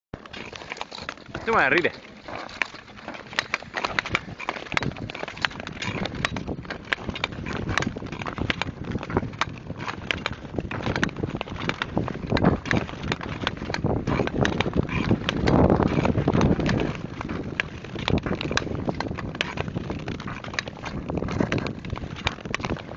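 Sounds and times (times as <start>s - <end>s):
ice skate blades scraping ice: 0.2s - 22.9s.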